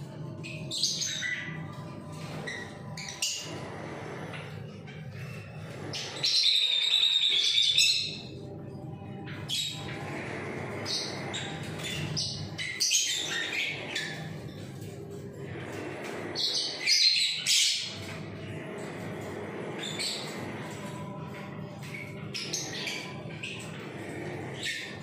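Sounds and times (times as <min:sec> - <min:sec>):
caged birds chirping and squawking: 0:00.0 - 0:25.0.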